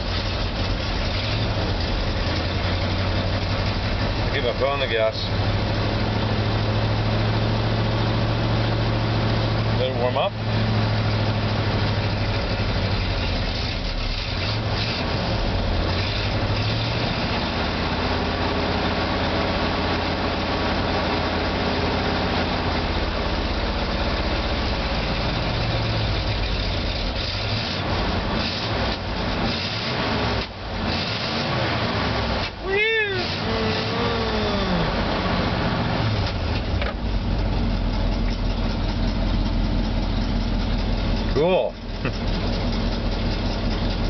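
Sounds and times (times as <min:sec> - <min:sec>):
truck engine idling: 0:00.0 - 0:29.5, 0:32.0 - 0:44.0.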